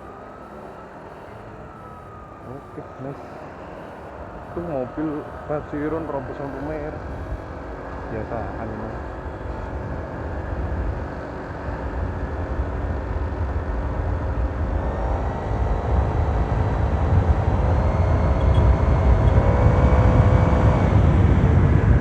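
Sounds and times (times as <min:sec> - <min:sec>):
scooter engine whine: 0:00.0 - 0:22.0.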